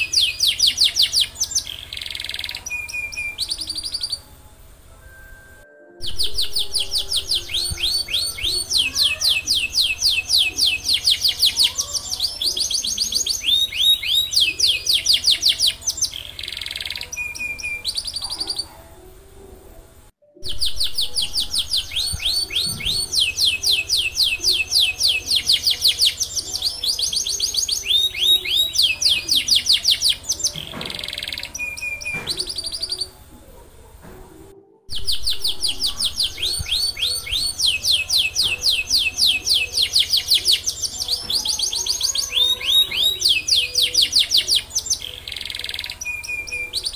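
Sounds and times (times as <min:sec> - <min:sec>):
canary singing trills: 0:00.0 - 0:04.5, 0:06.0 - 0:19.0, 0:20.4 - 0:33.4, 0:34.9 - 0:46.9.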